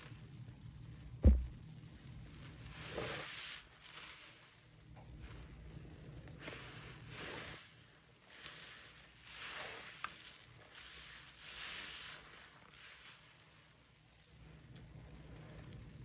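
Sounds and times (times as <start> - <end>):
sponges squelching in soapy water: 1.9 - 15.9.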